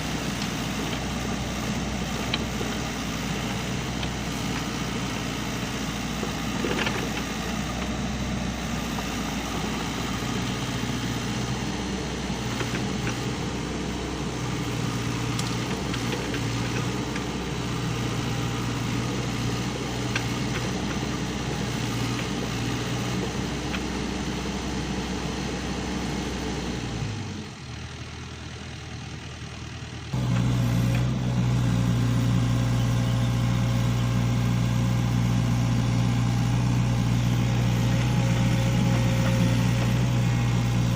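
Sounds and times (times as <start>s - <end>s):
excavator diesel engine humming: 0.0s - 40.9s.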